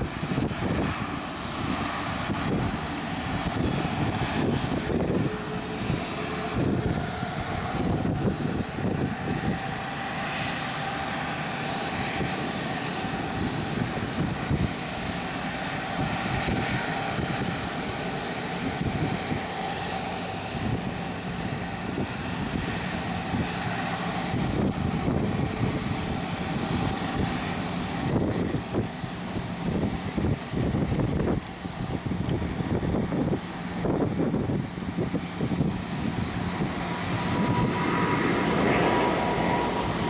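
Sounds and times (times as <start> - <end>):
faint jet engine whine: 0.0 - 40.0
jet engines rumbling: 0.0 - 40.0
wind buffeting microphone: 0.0 - 40.0.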